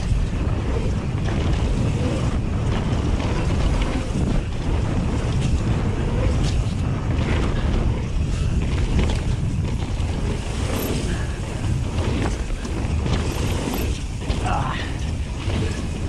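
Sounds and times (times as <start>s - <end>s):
bike clicks and knocks: 0.0s - 16.0s
tyres rolling over dirt: 0.0s - 16.0s
wind buffeting microphone: 0.0s - 16.0s.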